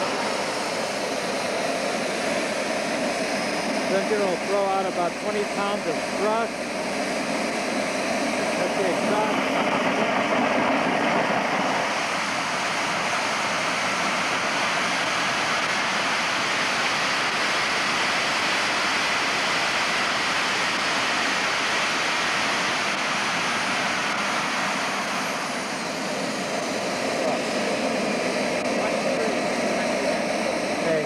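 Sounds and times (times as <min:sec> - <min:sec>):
model jet turbine running: 0:00.0 - 0:31.0.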